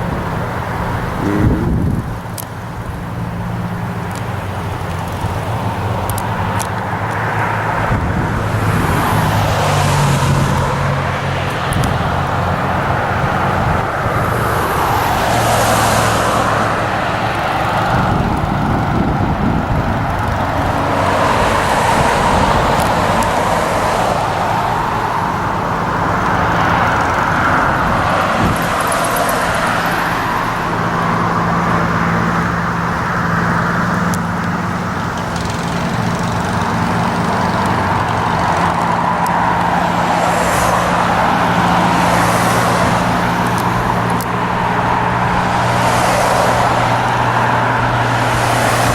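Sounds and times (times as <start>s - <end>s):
low engine hum: 0.0s - 48.9s
road traffic hiss: 0.0s - 48.9s.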